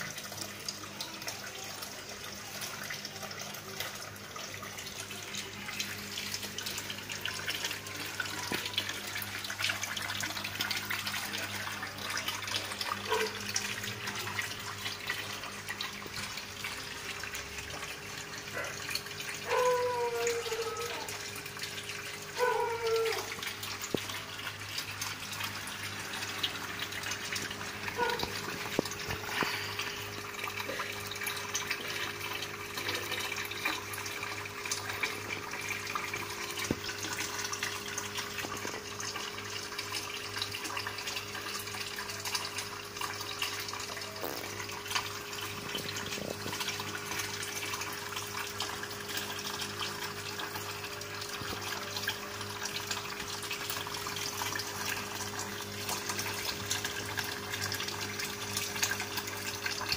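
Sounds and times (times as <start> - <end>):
small drips: 0.0 - 59.9
water trickling and bubbling: 0.0 - 59.9.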